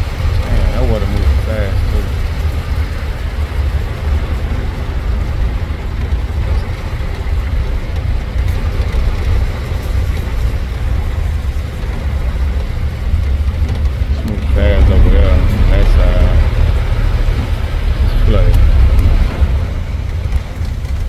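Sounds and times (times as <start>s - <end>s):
road noise: 0.0s - 21.0s
tuk-tuk engine rumble: 0.0s - 21.0s.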